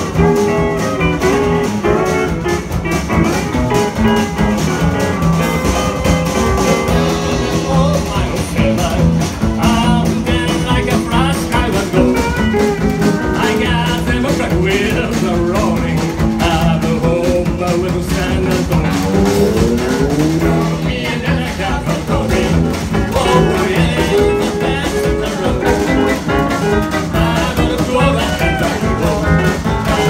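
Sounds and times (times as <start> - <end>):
live country band playing: 0.0 - 30.0.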